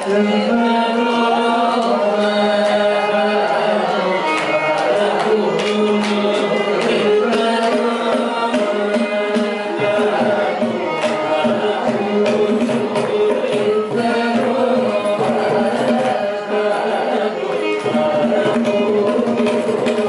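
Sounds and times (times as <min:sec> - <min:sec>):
group singing devotional song: 0:00.0 - 0:20.0.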